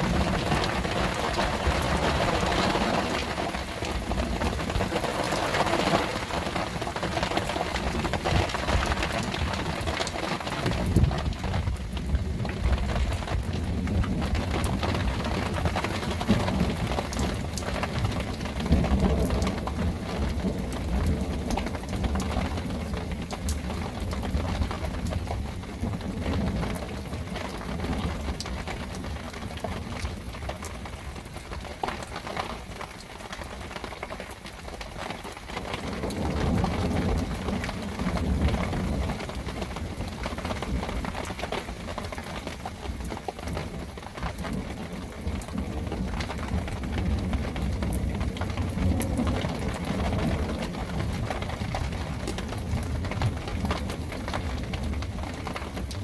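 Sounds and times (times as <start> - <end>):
rumbles of thunder: 0.0 - 30.7, 35.6 - 41.4, 43.5 - 56.0
heavy rain falling: 0.0 - 56.0.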